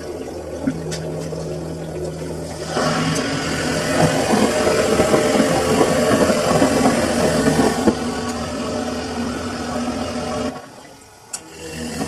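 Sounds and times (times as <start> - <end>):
washing machine running: 0.0 - 12.0.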